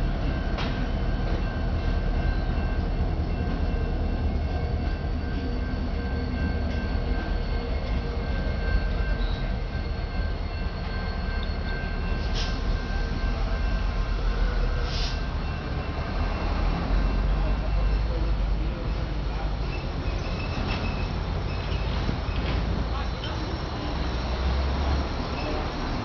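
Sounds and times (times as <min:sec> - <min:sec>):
locomotive engine rumble: 0:00.0 - 0:26.0
train wheels on rails: 0:00.0 - 0:26.0.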